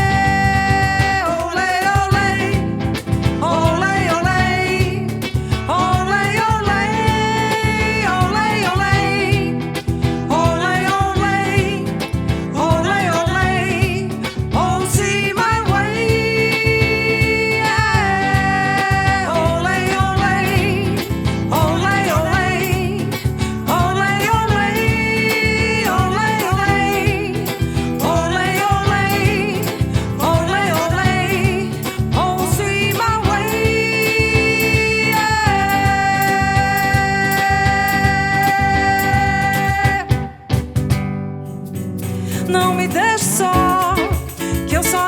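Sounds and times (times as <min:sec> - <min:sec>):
bass accompaniment: 0:00.0 - 0:45.0
guitar accompaniment: 0:00.0 - 0:45.0.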